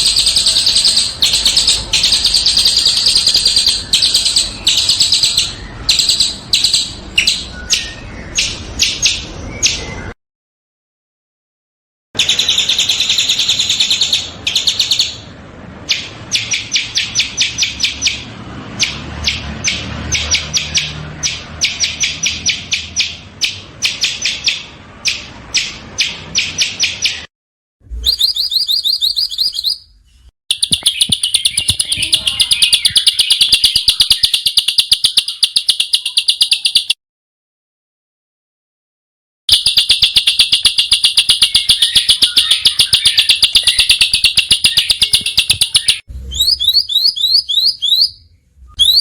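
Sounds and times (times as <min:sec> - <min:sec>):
songbirds chirping in rapid trills: 0:00.0 - 0:10.2, 0:12.2 - 0:27.3, 0:30.5 - 0:37.0, 0:39.5 - 0:49.0.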